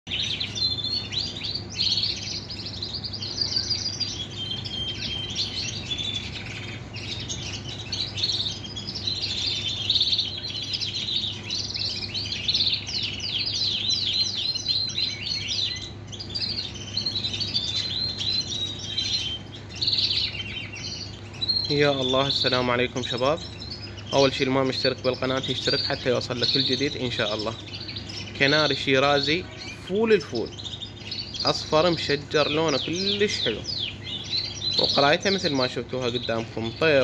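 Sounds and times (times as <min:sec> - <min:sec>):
canary singing trills: 0:00.0 - 0:37.0.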